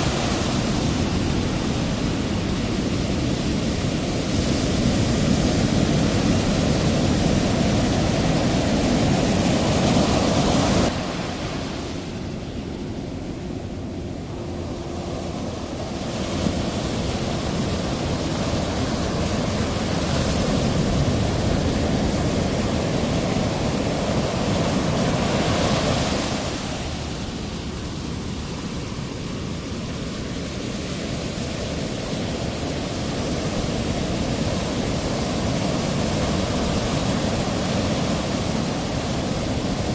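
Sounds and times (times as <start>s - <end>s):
ocean waves rushing: 0.0s - 39.9s.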